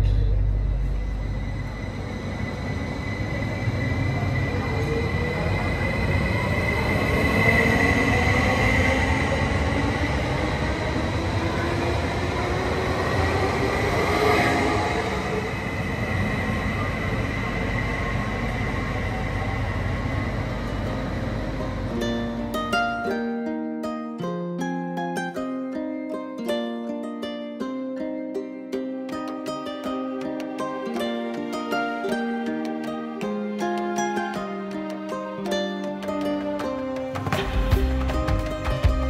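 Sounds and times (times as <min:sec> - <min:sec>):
train rumbling: 0:00.0 - 0:23.2, 0:29.5 - 0:39.0.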